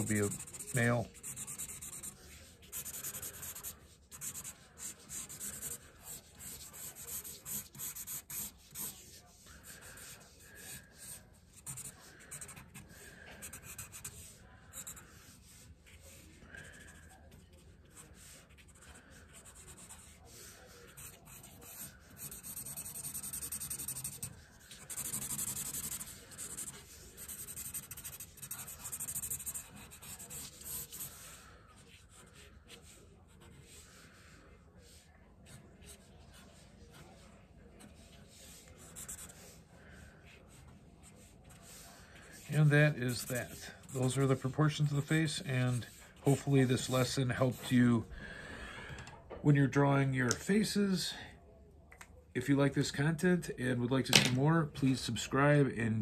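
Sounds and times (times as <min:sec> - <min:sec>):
marker scratching on paper: 0:00.0 - 0:47.7.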